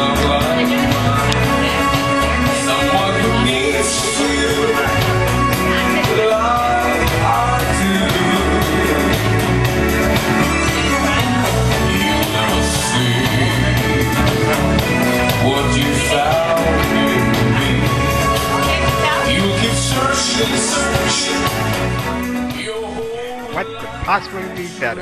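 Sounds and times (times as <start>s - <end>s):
pop-rock music with vocals: 0.0s - 25.0s.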